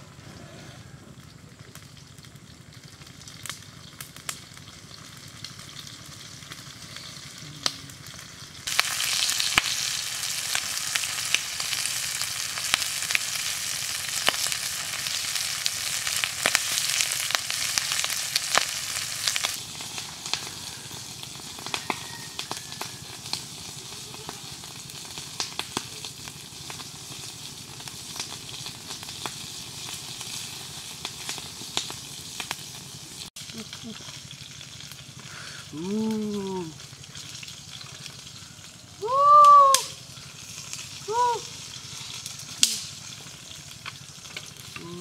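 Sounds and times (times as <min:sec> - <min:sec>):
burning wood crackling: 0:00.0 - 0:45.0
food sizzling with sharp pops: 0:01.2 - 0:45.0.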